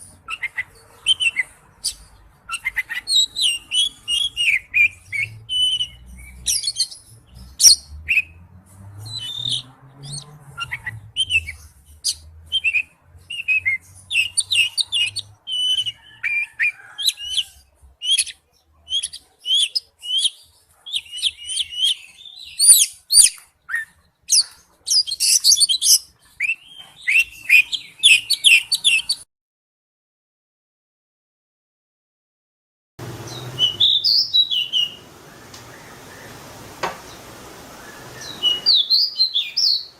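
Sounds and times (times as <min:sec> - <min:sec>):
songbird singing chirps and trills: 0:00.0 - 0:29.2, 0:33.0 - 0:39.9.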